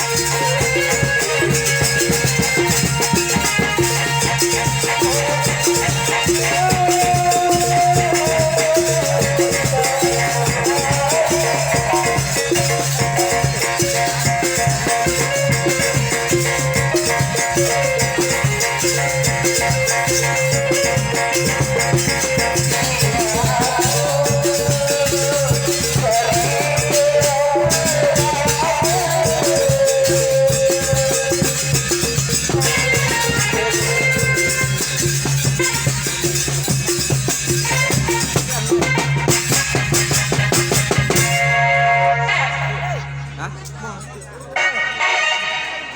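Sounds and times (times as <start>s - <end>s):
wavering melody line: 0.0s - 43.0s
percussion ensemble: 0.0s - 45.9s.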